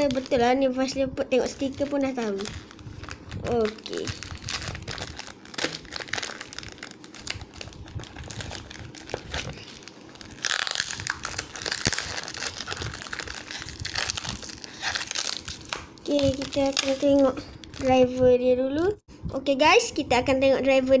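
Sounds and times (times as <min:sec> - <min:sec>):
plastic bag crinkling: 0:00.0 - 0:00.6, 0:01.4 - 0:18.2.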